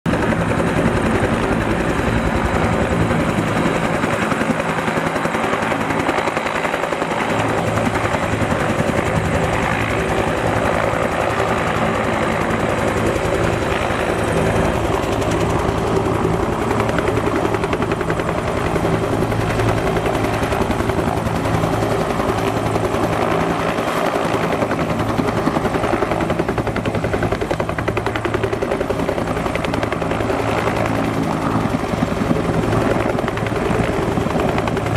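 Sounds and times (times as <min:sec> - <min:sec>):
helicopter rotor beating: 0:00.1 - 0:34.9.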